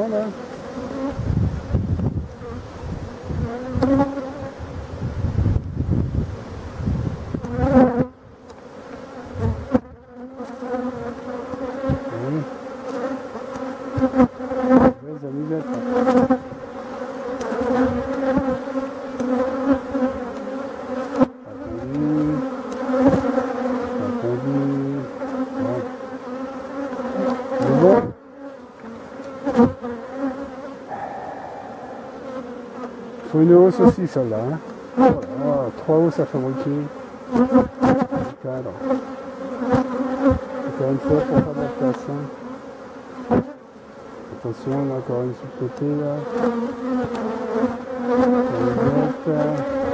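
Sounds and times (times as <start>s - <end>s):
honeybees buzzing: 0.0s - 49.9s.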